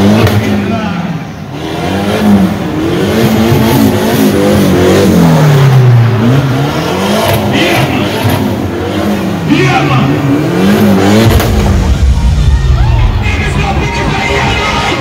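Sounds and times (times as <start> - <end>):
car engine revving hard: 0.0 - 12.3.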